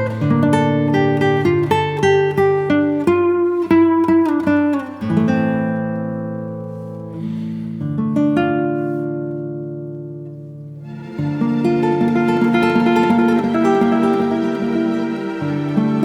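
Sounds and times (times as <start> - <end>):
fingerpicked acoustic guitar: 0.0 - 16.0.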